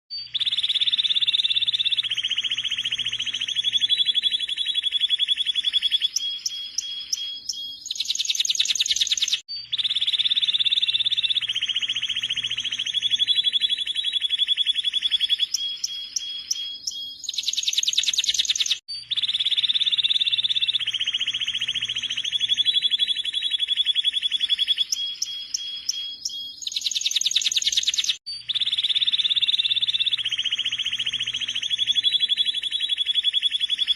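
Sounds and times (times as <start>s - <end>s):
canary singing rolled trills: 0.1s - 33.9s.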